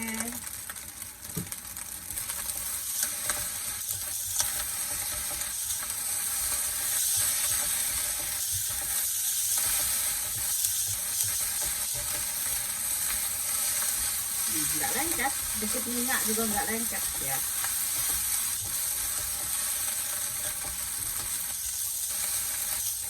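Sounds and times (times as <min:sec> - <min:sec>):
rice sizzling in a pan: 0:00.0 - 0:23.0.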